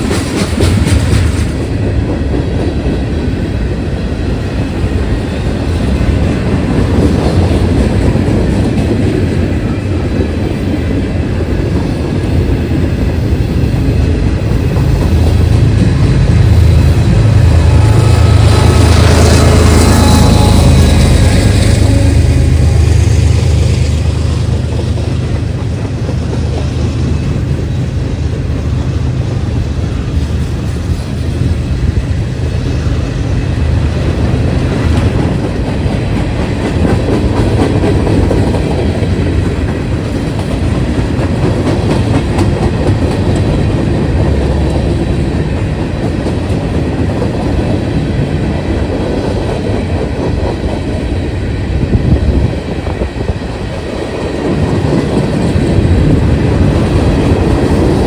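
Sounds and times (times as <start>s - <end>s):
diesel locomotive engine drone: 0.0s - 58.0s
railcars rumbling on track: 0.0s - 58.0s.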